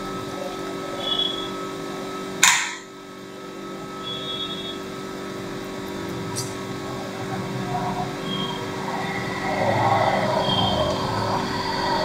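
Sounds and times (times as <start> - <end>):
low hum of room machinery: 0.0 - 12.0.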